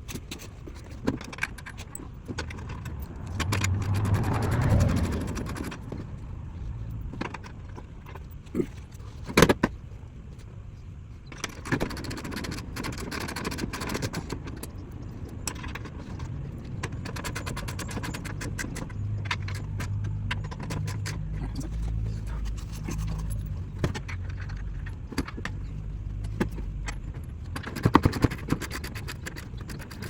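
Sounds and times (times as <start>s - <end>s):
metal tools clinking and rattling: 0.0s - 9.6s, 11.3s - 30.0s.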